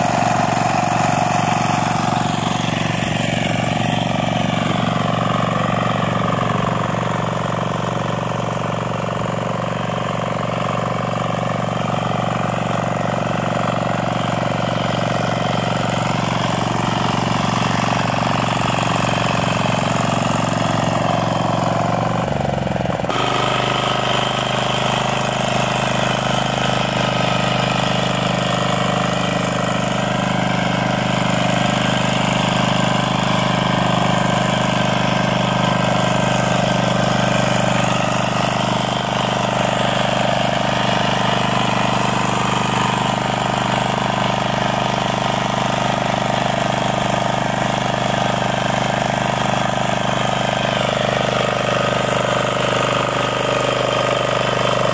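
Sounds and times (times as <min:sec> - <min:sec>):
diesel weeder engine running: 0:00.0 - 0:54.9.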